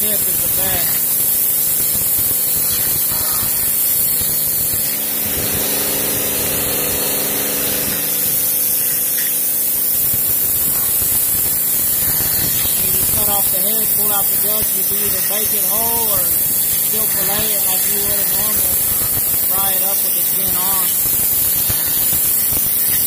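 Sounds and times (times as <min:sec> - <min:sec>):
machine humming: 0:00.0 - 0:23.0
pressure washer spray hissing: 0:00.0 - 0:23.0.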